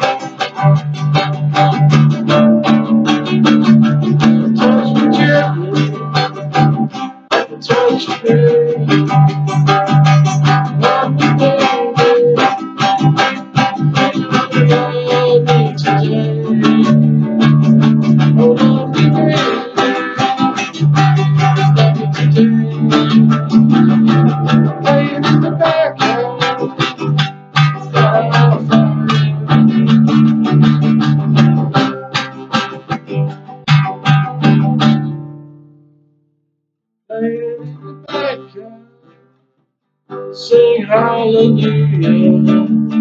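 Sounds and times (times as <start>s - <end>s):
acoustic guitar strumming: 0.0s - 36.1s, 37.1s - 39.4s, 40.1s - 43.0s.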